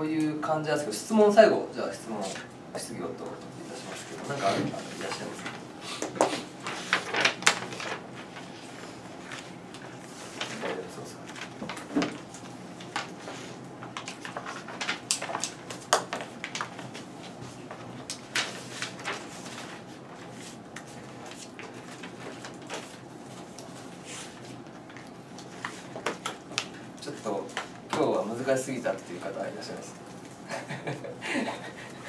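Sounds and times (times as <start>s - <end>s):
steady room noise: 0.0s - 32.0s.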